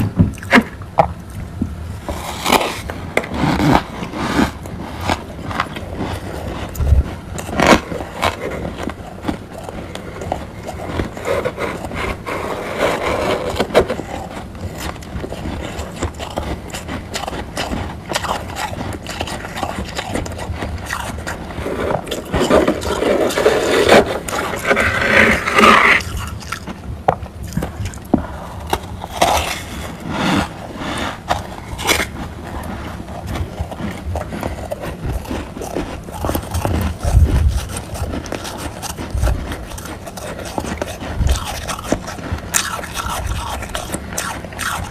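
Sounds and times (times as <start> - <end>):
faint low hum: 0.0 - 44.9
frost crunching and scraping: 0.0 - 44.9.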